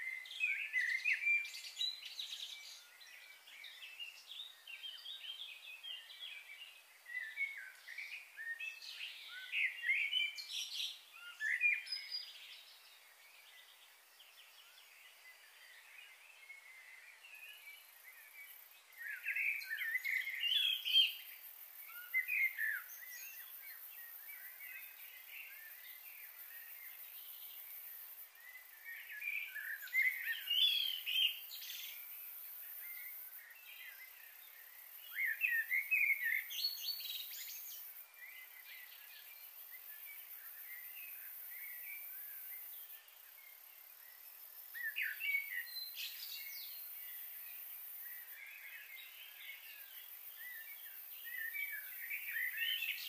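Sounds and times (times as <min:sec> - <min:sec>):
birds chirping and singing: 0:00.0 - 0:43.5, 0:44.1 - 0:53.0
faint steady hiss: 0:00.0 - 0:53.0.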